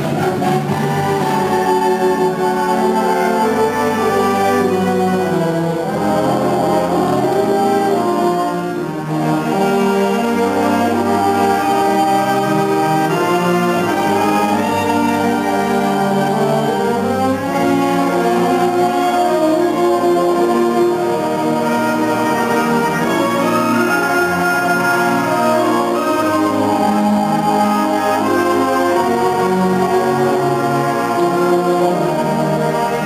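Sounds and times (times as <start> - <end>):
concert band playing: 0.0 - 33.0.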